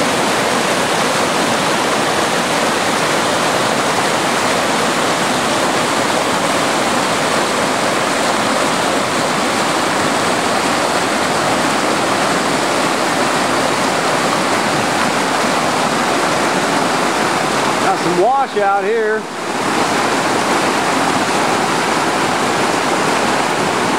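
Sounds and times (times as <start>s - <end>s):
stream water rushing: 0.0s - 23.9s.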